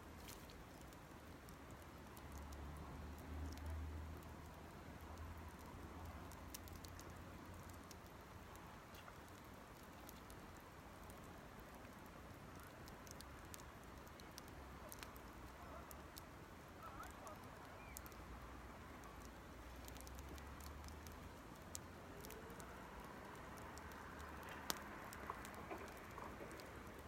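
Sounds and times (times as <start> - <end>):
small campfire crackling: 0.0 - 27.0.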